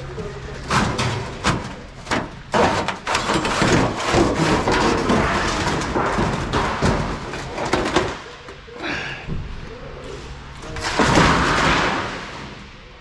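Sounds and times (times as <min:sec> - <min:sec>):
scrap metal clattering and scraping: 0:00.0 - 0:08.7, 0:09.3 - 0:12.9.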